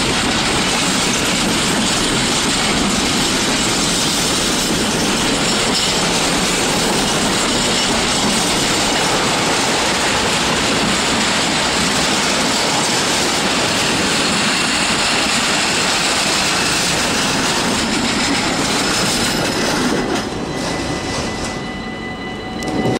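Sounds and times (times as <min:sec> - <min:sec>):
train wheels rushing on rails: 0:00.0 - 0:22.9.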